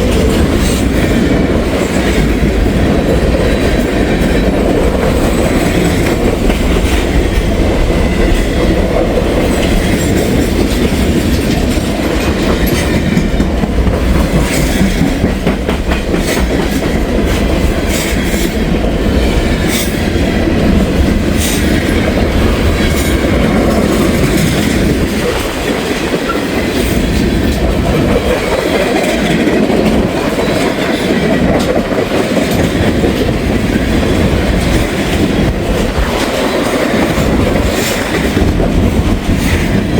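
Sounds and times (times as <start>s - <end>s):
freight train rumbling: 0.0s - 39.9s
wheels clicking over rail joints: 0.0s - 39.9s.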